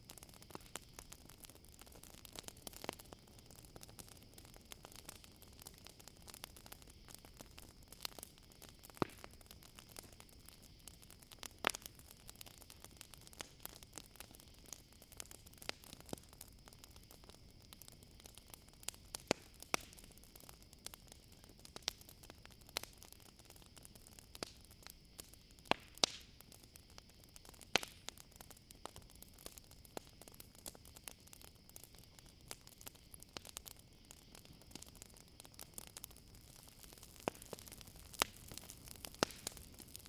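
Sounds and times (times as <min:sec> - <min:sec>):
campfire crackling and popping: 0:00.0 - 0:40.0
crickets chorus: 0:00.1 - 0:40.0.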